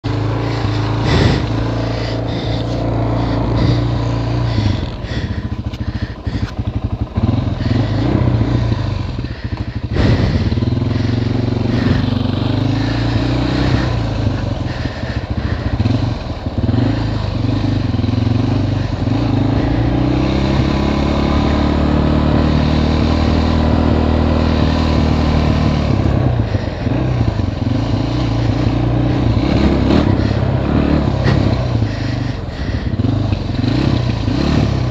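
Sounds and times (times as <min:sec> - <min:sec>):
quad engine revving: 0:00.0 - 0:34.9.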